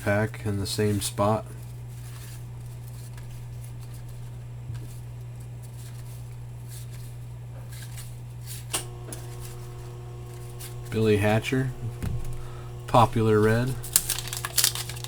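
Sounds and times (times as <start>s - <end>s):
steady low hum: 0.0s - 15.0s
cards rustling and flipping: 0.8s - 15.0s.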